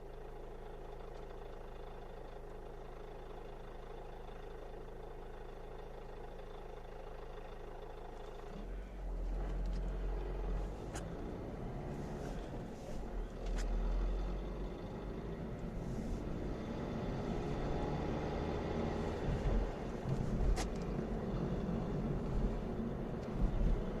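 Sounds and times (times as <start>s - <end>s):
diesel engine running: 0.0s - 24.0s
engine rattle: 0.0s - 24.0s.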